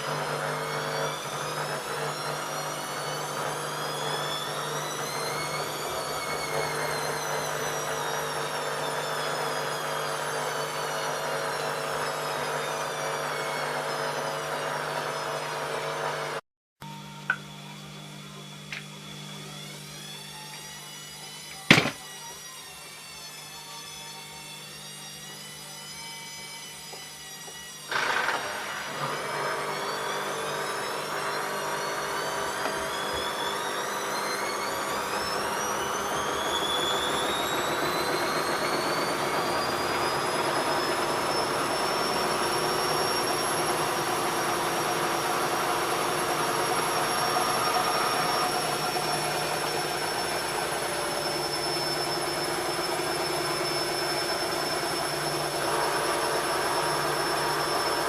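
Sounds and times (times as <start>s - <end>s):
washing machine motor whine: 0.0s - 58.0s.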